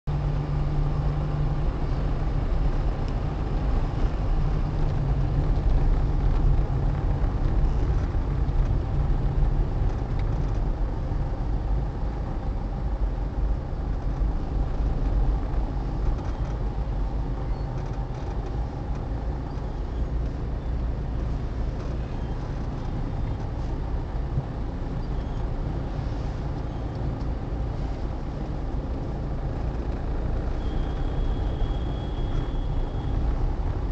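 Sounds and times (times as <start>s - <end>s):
traffic engines idling: 0.1s - 33.9s.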